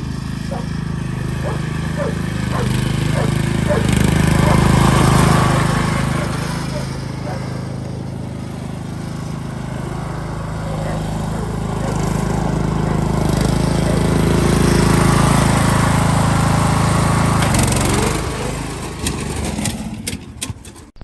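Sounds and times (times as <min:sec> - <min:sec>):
lawn mower engine running: 0:00.0 - 0:20.8.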